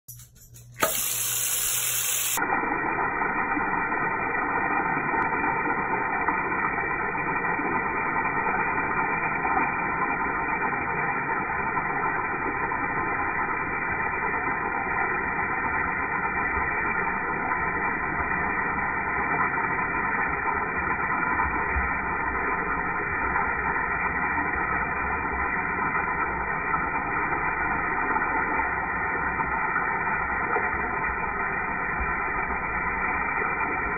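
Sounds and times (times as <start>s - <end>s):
tap water pouring into sink: 0.8s - 33.9s.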